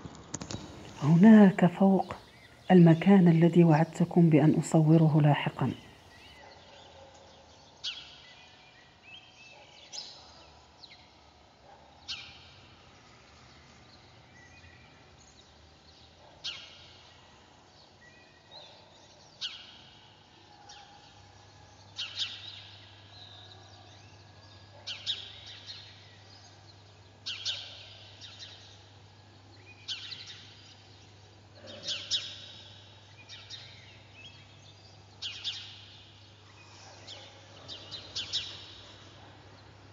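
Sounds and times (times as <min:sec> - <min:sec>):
bird chirping: 0:00.1 - 0:39.7.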